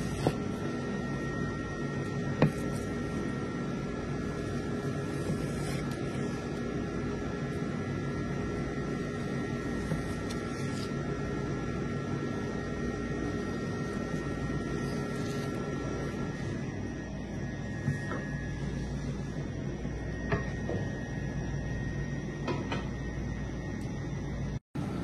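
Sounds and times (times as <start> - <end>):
machine hum with held tones: 0.0 - 25.0.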